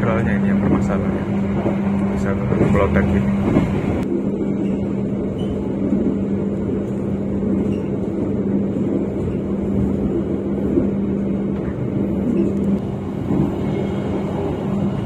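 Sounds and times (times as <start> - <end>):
constant low hum: 0.0 - 15.0
train wheels rumbling on rails: 0.0 - 15.0.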